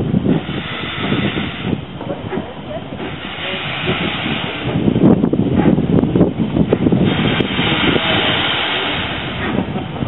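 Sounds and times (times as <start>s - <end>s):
steam locomotive hissing: 0.0s - 10.0s.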